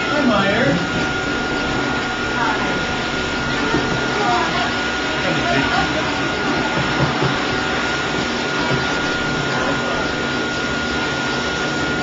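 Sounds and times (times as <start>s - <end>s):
blow dryer rushing air and whine: 0.0s - 12.0s.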